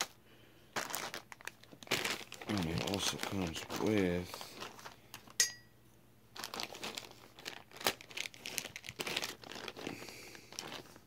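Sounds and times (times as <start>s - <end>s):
plastic packaging crinkling: 0.0s - 5.4s, 6.3s - 11.0s.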